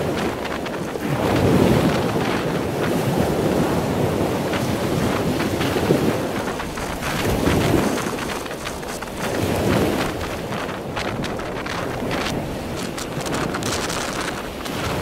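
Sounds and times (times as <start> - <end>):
heavy surf: 0.0 - 15.0
wind buffeting microphone: 0.0 - 15.0.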